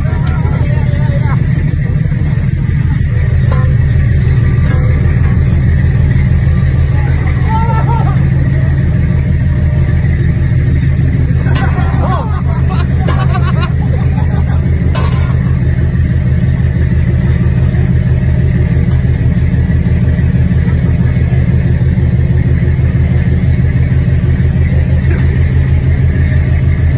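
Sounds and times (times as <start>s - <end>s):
boat engine low drone: 0.0s - 26.9s.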